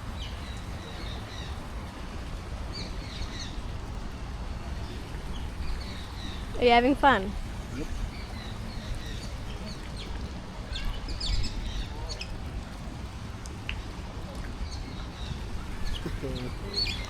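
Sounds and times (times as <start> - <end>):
birds chirping faintly: 0.0 - 17.0
steady low rumble: 0.0 - 17.0.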